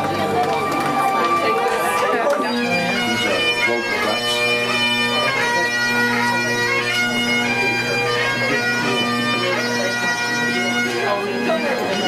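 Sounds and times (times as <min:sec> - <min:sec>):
bagpipes playing marching tune: 0:00.0 - 0:12.0.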